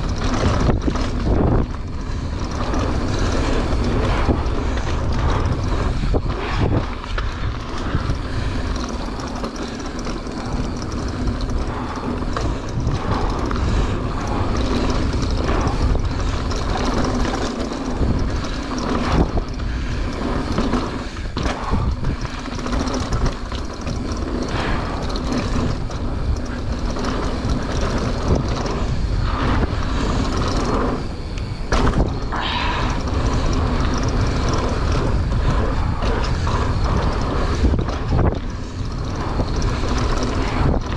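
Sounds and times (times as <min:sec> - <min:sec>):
bike rattling over bumps: 0:00.0 - 0:40.9
bike tyres on dirt: 0:00.0 - 0:40.9
wind rush on microphone: 0:00.0 - 0:40.9.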